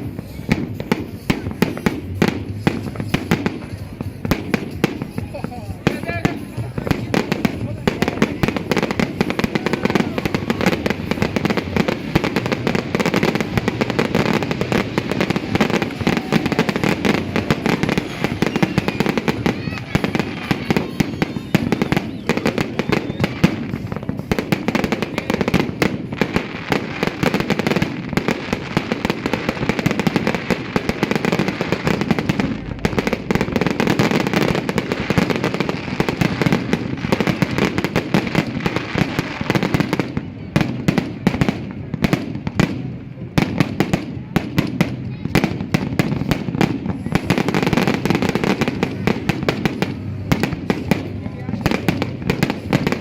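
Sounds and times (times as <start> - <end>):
fireworks and firecrackers popping: 0.0 - 53.0.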